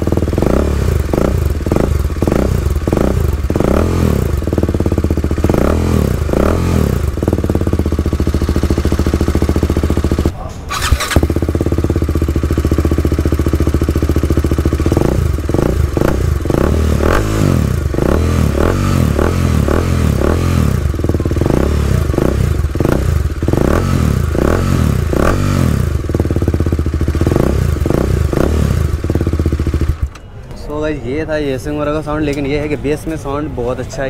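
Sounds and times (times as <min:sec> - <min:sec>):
motorcycle engine revving: 0:00.0 - 0:30.2.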